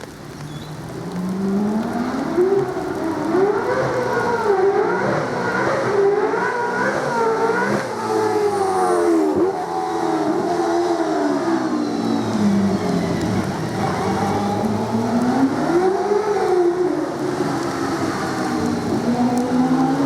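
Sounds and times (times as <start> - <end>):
race car engine revving: 1.4 - 20.0.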